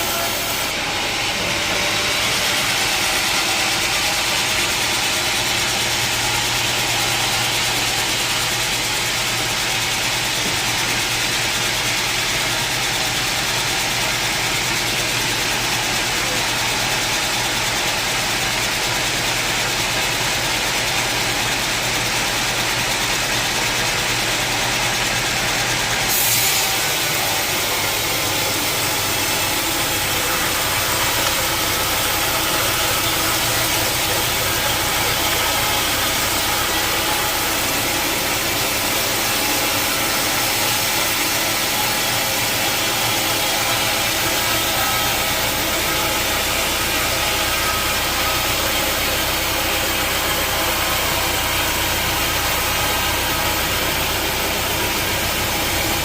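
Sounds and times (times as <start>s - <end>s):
sawmill saw running: 0.0s - 56.0s.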